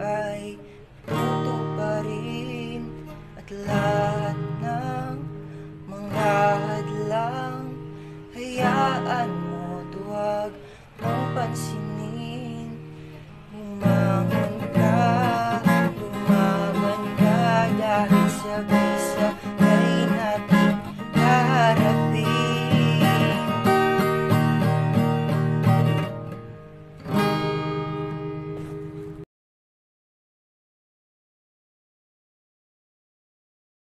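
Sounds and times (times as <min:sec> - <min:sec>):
acoustic guitar strumming: 0:00.0 - 0:29.2.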